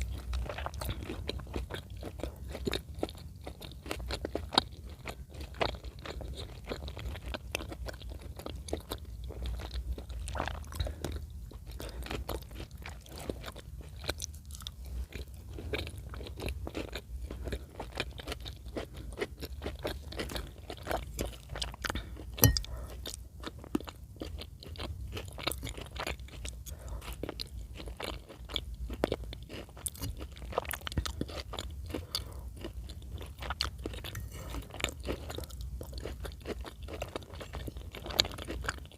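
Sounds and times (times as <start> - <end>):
close chewing crunches: 0.0 - 38.9.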